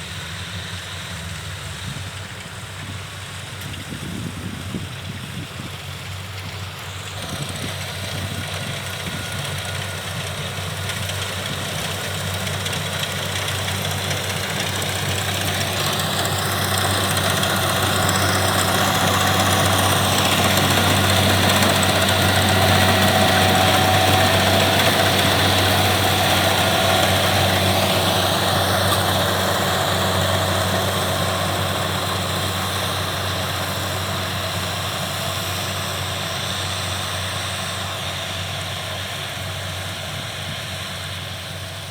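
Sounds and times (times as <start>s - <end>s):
combine harvester diesel engine: 0.0s - 41.9s.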